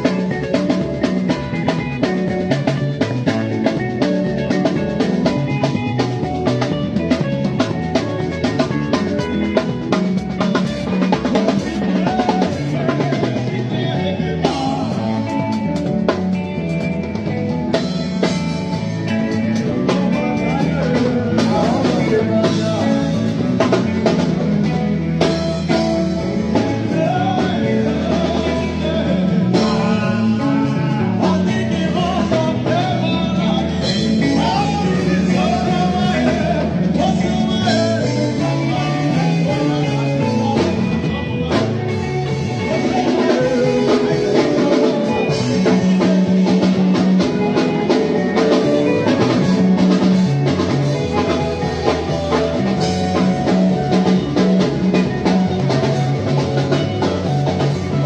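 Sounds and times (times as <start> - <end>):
bass and guitar: 0.0 - 58.0
drum kit beat: 0.0 - 58.0
wavering lead melody: 0.0 - 58.0.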